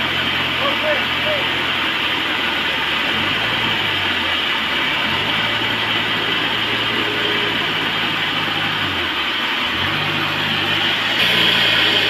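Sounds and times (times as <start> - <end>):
sawmill machinery clattering: 0.0 - 12.0.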